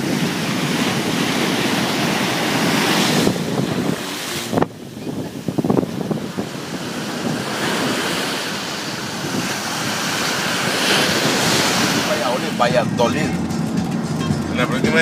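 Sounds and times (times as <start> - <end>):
sea surf breaking on beach: 0.0 - 13.3
wind buffeting microphone: 0.0 - 15.0.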